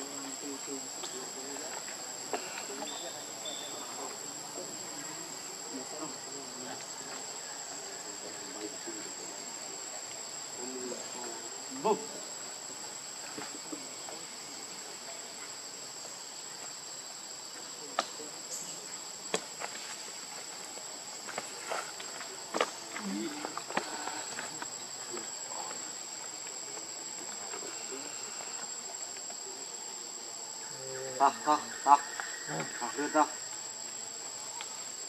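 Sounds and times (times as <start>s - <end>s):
insect chorus buzzing: 0.0s - 35.0s.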